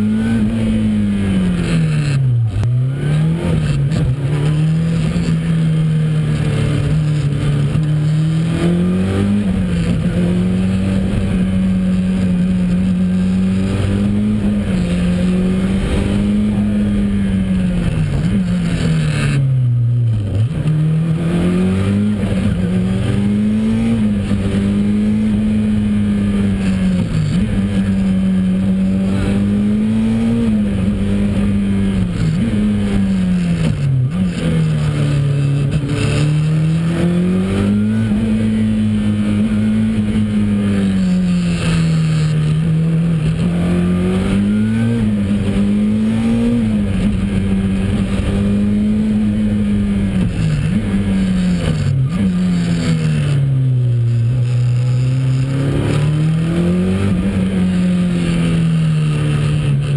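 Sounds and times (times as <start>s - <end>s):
car engine revving from cabin: 0.0s - 59.9s.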